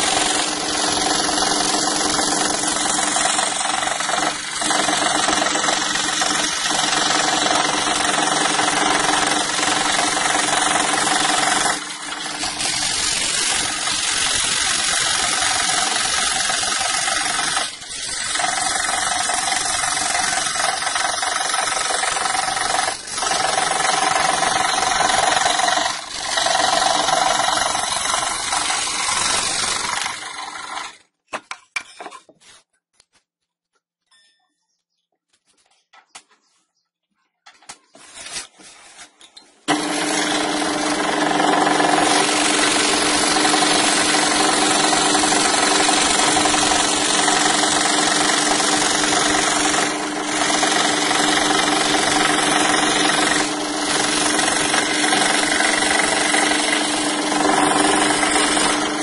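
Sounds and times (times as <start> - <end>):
scroll saw cutting plywood: 0.0 - 31.1, 39.6 - 59.0.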